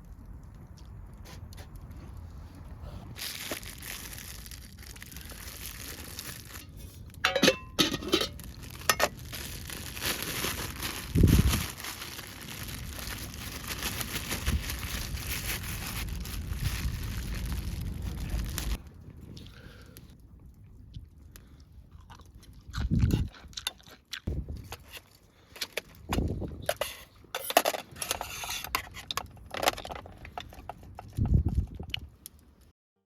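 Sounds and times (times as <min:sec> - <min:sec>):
crinkling and rustling: 0:00.0 - 0:20.2, 0:22.1 - 0:32.7.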